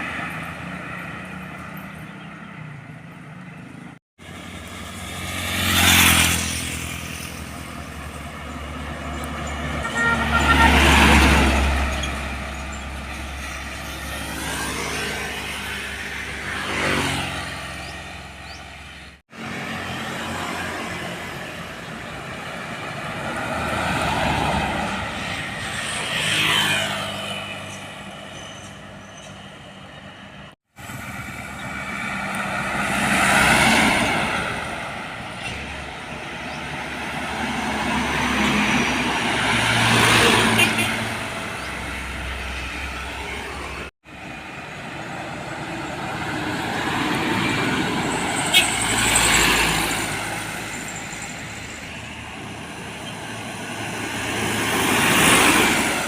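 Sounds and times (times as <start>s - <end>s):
trucks passing: 0.0s - 56.0s.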